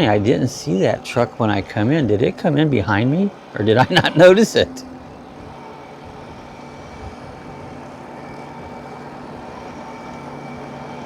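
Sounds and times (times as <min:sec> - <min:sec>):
faint whining tones: 0:00.0 - 0:11.0
motor hum: 0:00.0 - 0:11.0.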